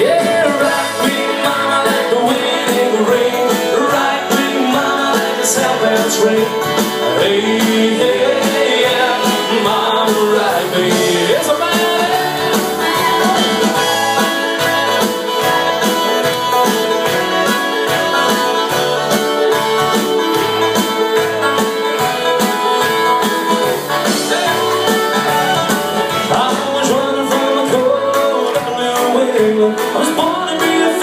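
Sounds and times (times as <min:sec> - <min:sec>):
country band playing: 0:00.0 - 0:31.0.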